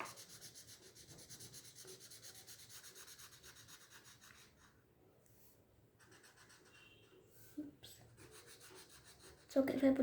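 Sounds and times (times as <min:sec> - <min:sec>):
marker rubbing on paper: 0:00.0 - 0:10.0.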